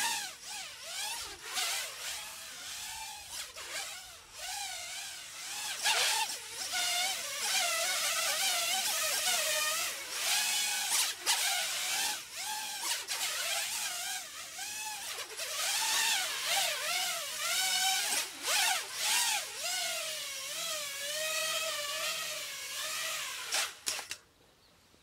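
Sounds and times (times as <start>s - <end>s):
drone motors whining: 0.0s - 24.2s.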